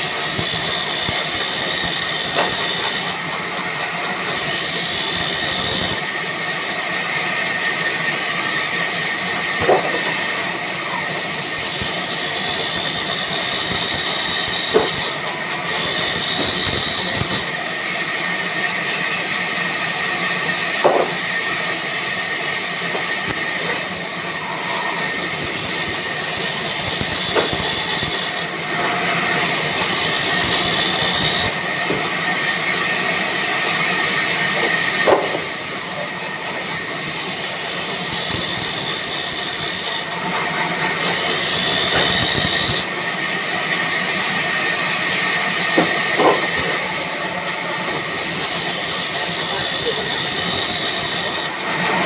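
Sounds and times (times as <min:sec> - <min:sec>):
band saw running with whine: 0:00.0 - 0:52.0.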